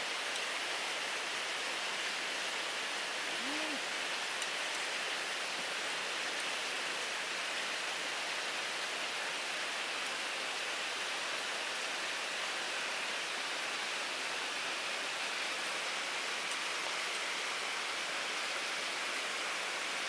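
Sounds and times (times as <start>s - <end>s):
river rushing over rapids: 0.0s - 20.0s.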